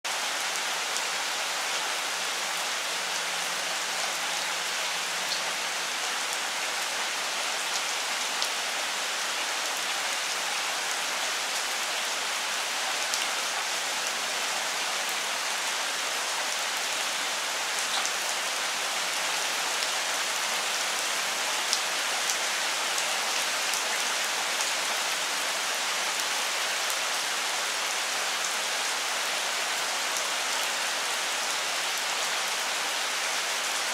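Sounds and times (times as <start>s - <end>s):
rain falling on leaves: 0.0s - 33.9s.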